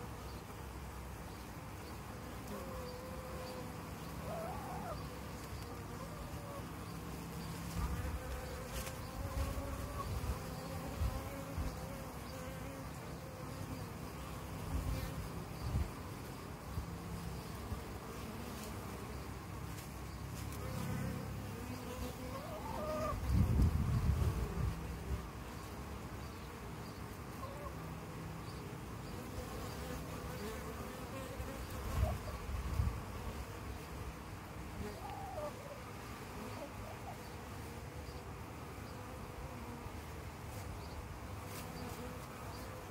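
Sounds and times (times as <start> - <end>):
honeybees buzzing: 0.0 - 42.9.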